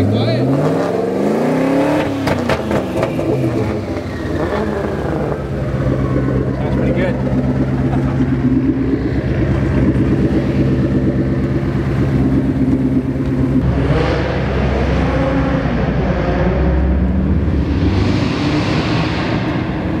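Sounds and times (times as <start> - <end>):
car engine and exhaust revving: 0.0 - 20.0.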